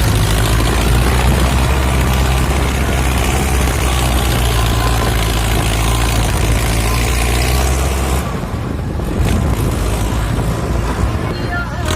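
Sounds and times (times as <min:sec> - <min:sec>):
heavy diesel engine running: 0:00.0 - 0:11.9.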